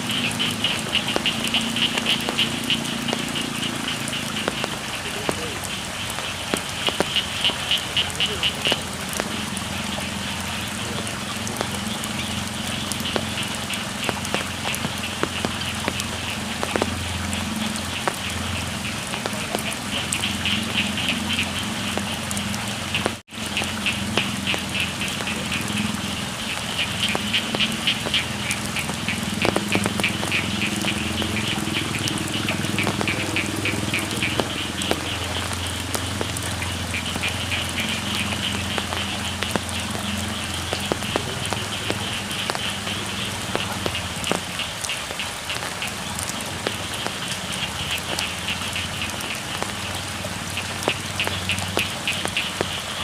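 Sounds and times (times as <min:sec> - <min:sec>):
frogs trilling: 0:00.0 - 0:53.0
steady rain falling: 0:00.0 - 0:53.0.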